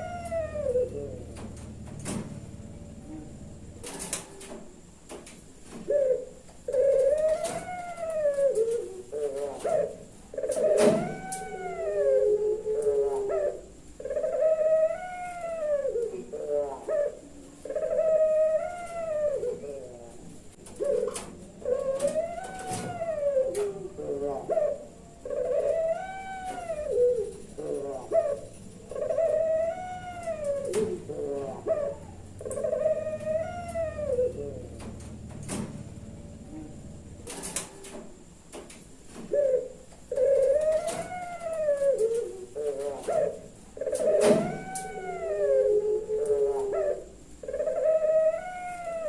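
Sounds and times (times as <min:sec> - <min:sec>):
dove cooing: 0:00.0 - 0:49.0.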